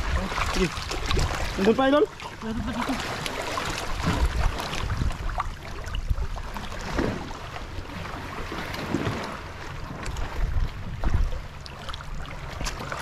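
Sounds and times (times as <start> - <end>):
low rumble of water: 0.0 - 13.0
seawater sloshing and lapping: 0.0 - 13.0
small water splashes: 0.0 - 13.0.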